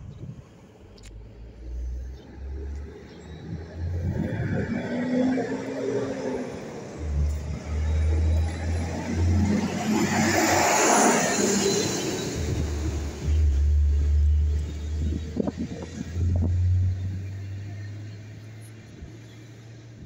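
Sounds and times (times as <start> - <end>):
truck engine and tyre noise: 0.0 - 20.0.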